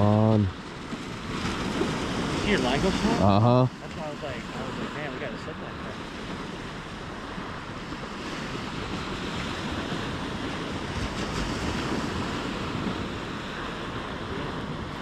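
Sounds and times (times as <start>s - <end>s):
wind on microphone: 0.0s - 3.6s, 5.8s - 15.0s
waves breaking on gravel beach: 0.6s - 15.0s.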